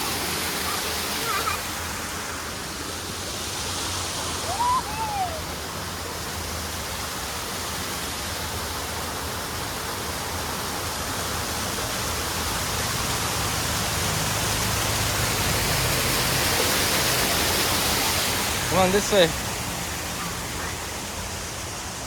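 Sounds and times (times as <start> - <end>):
waterfall splashing: 0.0 - 22.0.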